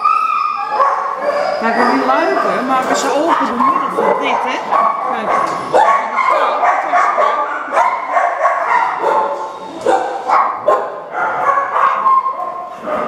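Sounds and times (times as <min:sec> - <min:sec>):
dogs barking and yipping: 0:00.0 - 0:13.0.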